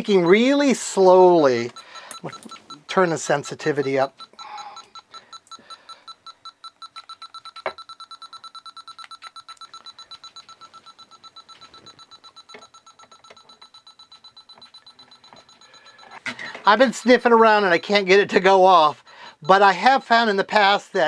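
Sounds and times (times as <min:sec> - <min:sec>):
faint steady tone: 0:00.0 - 0:20.8
leak detector ticking: 0:00.0 - 0:20.8.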